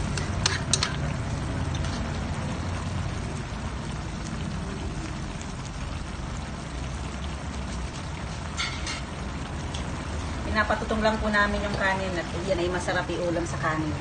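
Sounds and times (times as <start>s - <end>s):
sauce bubbling in a metal pan: 0.0s - 14.0s.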